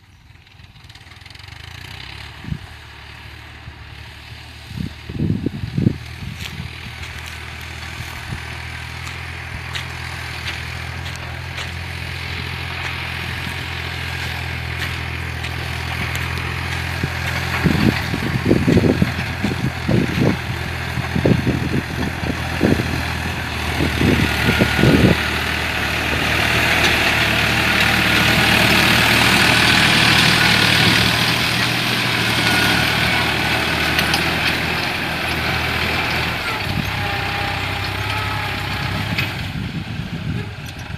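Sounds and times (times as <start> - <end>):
tractor engine under load: 0.0 - 40.9.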